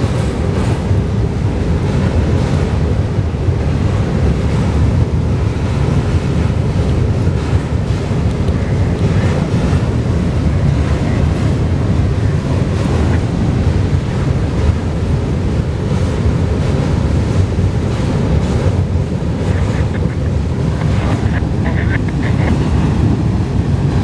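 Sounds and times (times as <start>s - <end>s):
train wheels rumbling on bridge: 0.0s - 24.0s.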